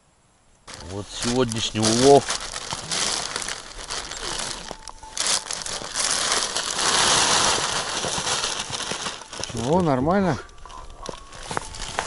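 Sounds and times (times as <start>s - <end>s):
plastic bag rustling: 0.7s - 12.0s.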